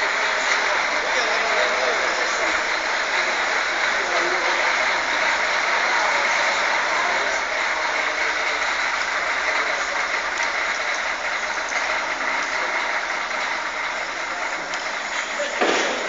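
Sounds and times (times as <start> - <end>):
bus engine running: 0.0 - 16.0.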